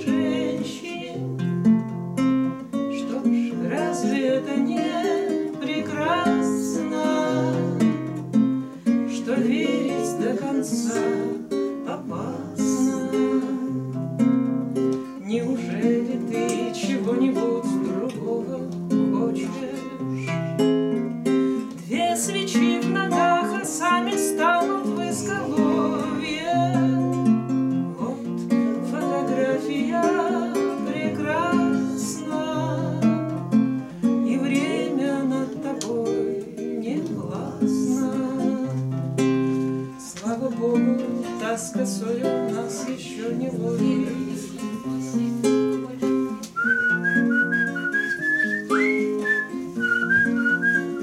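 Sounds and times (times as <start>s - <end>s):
woman singing: 0.0s - 1.6s, 2.6s - 20.6s, 21.5s - 51.0s
classical guitars playing: 0.0s - 51.0s.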